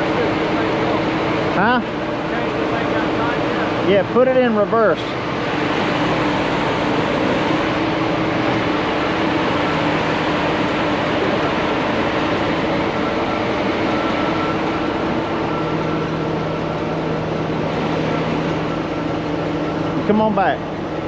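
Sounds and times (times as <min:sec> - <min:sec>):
heavy truck engine rumbling: 0:00.0 - 0:21.0.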